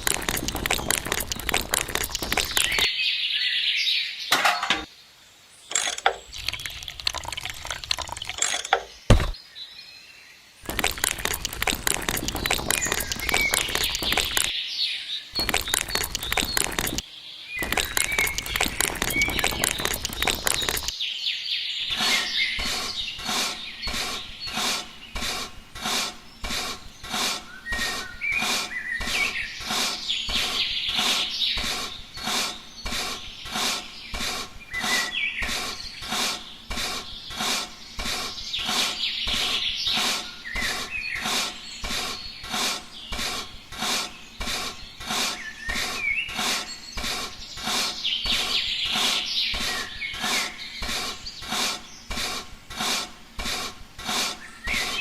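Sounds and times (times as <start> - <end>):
birds chirping: 0.0 - 4.9, 5.6 - 55.0.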